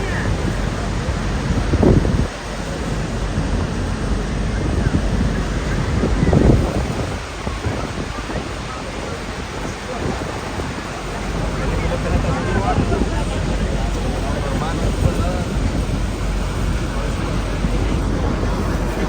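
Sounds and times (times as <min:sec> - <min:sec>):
heavy water roaring: 0:00.0 - 0:19.0
wind buffeting microphone: 0:00.0 - 0:19.0.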